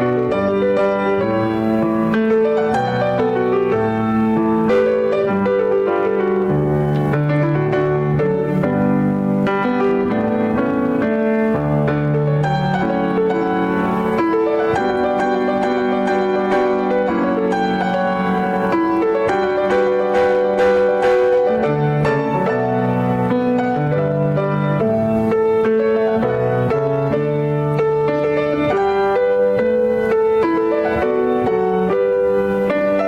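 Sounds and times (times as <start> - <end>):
piano playing slow chords: 0.0 - 33.0.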